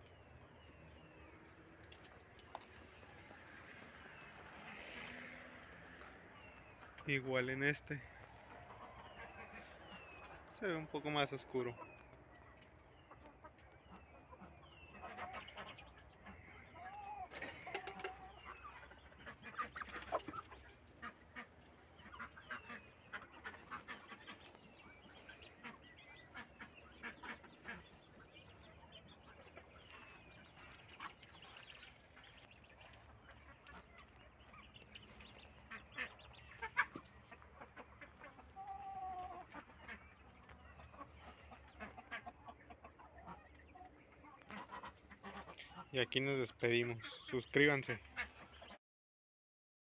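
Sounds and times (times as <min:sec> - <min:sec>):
long drawn bird calls: 0:00.0 - 0:46.1
chickens clucking: 0:00.0 - 0:48.8
ducks quacking: 0:00.0 - 0:48.8.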